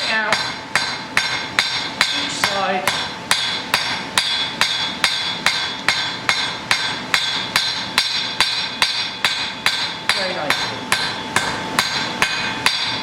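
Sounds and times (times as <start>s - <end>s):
hammer striking iron on anvil: 0.0s - 13.0s.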